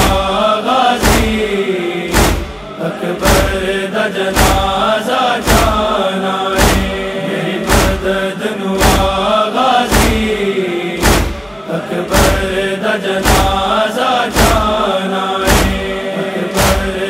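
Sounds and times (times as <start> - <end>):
heavy rhythmic chest thumps: 0.0 - 17.0
male chorus chanting: 0.0 - 17.0.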